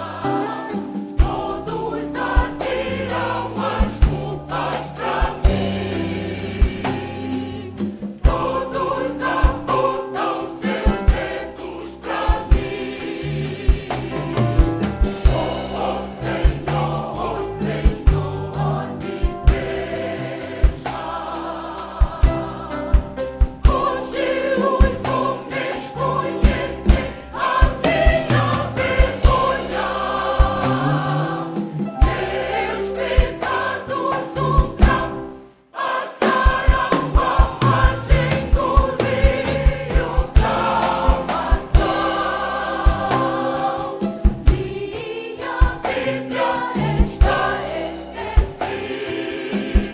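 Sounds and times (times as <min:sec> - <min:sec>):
choir singing gospel song: 0:00.0 - 0:49.9
instrumental accompaniment with beat: 0:00.0 - 0:49.9.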